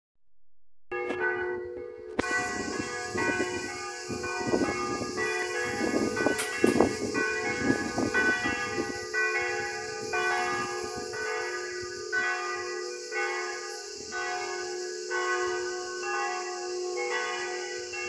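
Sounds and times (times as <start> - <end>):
church bells ringing: 0.9 - 18.0.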